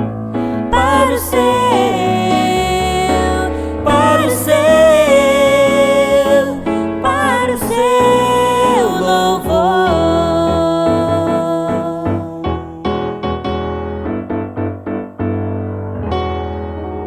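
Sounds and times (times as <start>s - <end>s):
gospel worship song: 0.0s - 15.0s.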